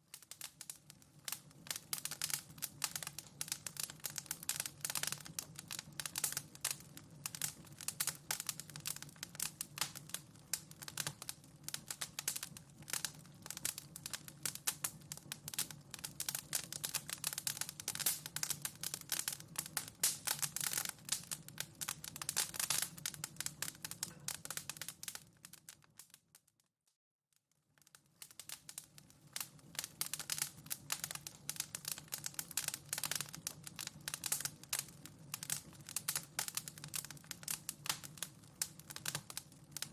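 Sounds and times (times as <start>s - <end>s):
fire crackling in a fireplace: 0.0s - 26.8s, 27.4s - 39.9s.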